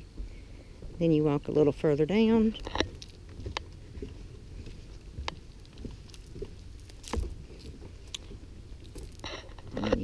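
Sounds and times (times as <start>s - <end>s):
low steady rumble: 0.0s - 10.0s
footsteps on dock decking: 0.1s - 10.0s.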